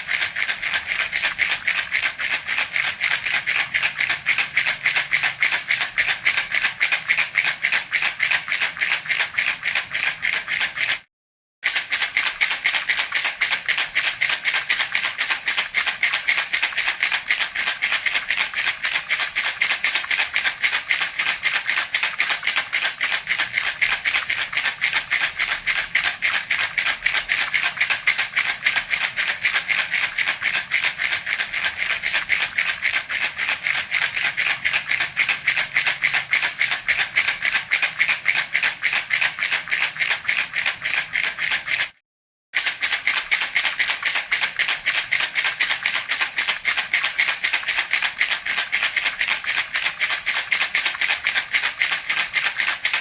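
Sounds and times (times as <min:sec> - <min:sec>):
baby rattle shaking: 0:00.0 - 0:42.0, 0:42.6 - 0:53.0.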